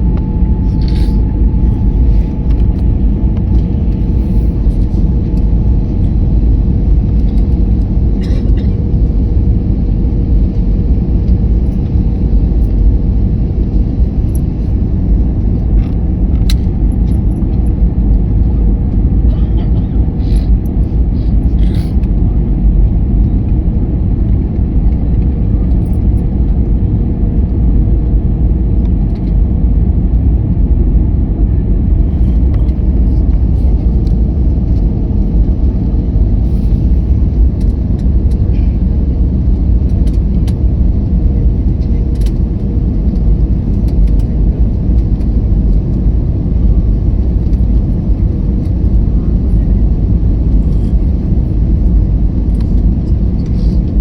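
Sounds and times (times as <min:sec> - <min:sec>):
airliner engines rumbling: 0:00.0 - 0:54.0.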